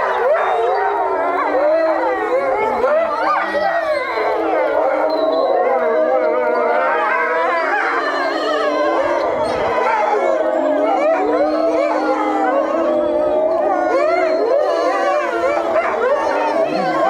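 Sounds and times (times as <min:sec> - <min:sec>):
wolves howling in chorus: 0:00.0 - 0:17.0.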